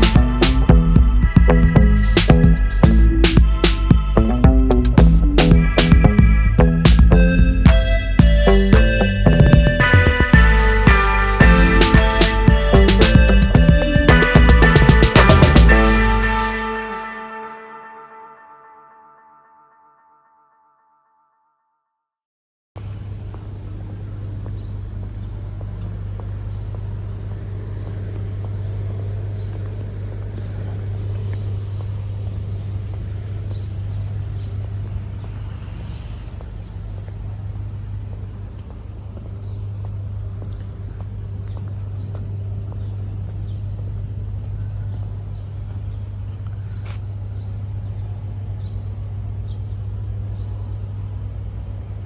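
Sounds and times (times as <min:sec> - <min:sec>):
steady low rumble: 0:00.0 - 0:16.7, 0:22.8 - 0:52.0.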